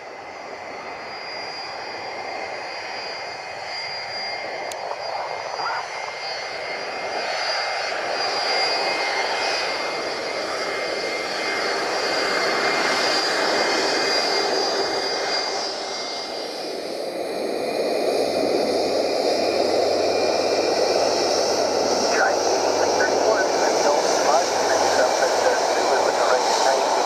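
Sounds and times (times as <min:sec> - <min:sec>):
jet engines rushing and whining: 0:00.0 - 0:27.0.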